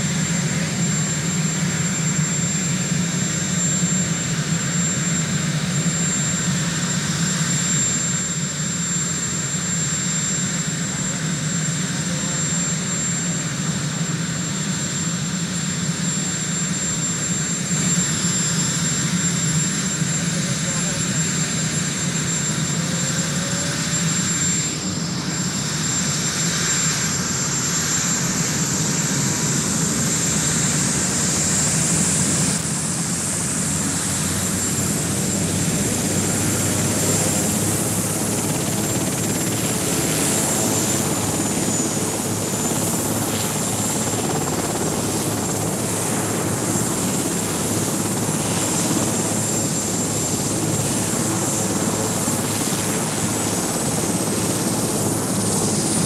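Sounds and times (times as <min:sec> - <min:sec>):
helicopter engine and rotor noise: 0:00.0 - 0:56.0
high turbine whine: 0:00.0 - 0:56.0.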